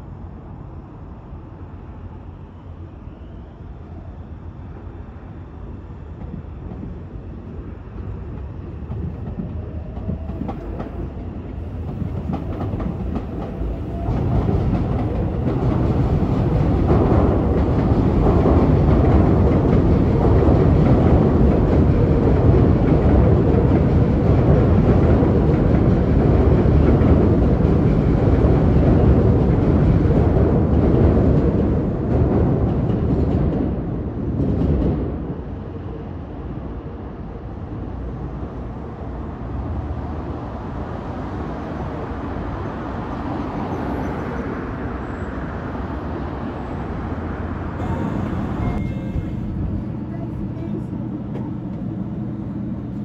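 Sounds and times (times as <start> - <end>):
electric train running past: 0.0 - 53.0.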